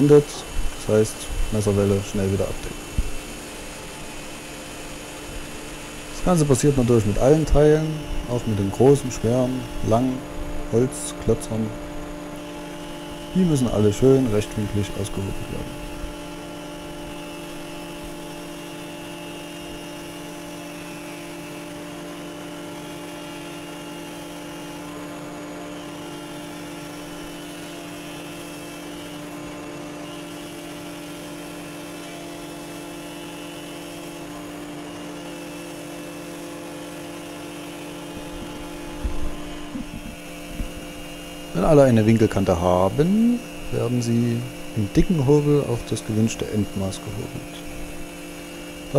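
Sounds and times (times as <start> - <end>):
jointer-planer humming: 0.0 - 48.9
timber being planed: 0.0 - 48.9.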